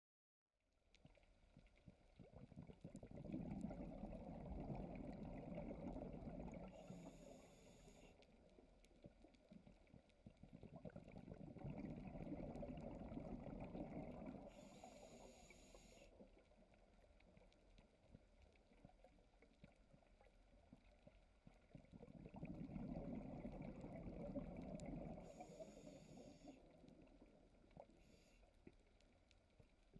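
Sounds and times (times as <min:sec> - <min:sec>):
exhaled bubbles rumbling underwater: 0:01.0 - 0:29.9.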